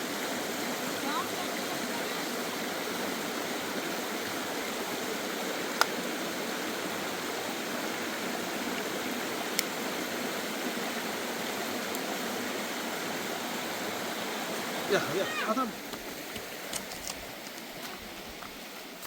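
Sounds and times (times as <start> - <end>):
stream flowing: 0.0 - 19.0.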